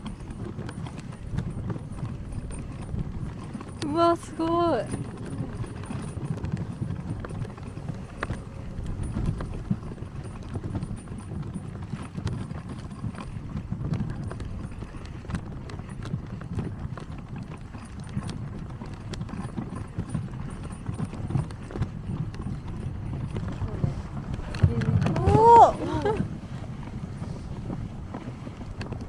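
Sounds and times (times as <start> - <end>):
sled runners on snow: 0.0 - 29.0.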